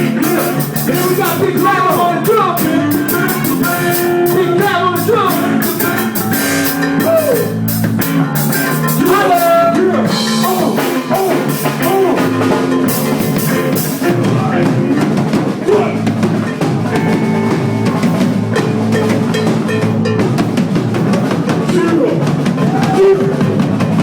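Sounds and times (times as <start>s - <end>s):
bass notes: 0.0s - 24.0s
drum kit: 0.0s - 24.0s
live band jamming: 0.0s - 24.0s.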